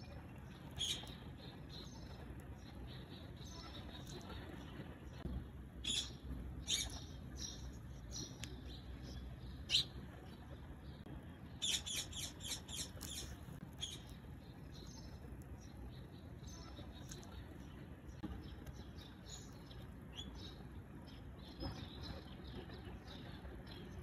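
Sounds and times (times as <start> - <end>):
low steady hum: 0.0 - 24.0
small bird chirps: 0.4 - 4.5, 5.8 - 24.0.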